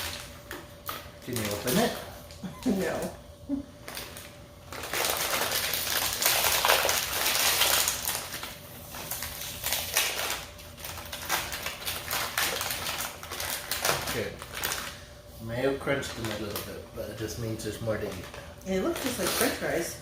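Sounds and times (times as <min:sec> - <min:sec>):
snack bag crinkling: 0:00.0 - 0:03.1, 0:03.8 - 0:15.1, 0:15.8 - 0:16.7, 0:17.8 - 0:19.6.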